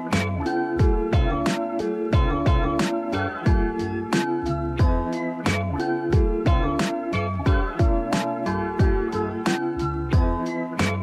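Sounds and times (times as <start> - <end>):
held chords: 0.0 - 11.0.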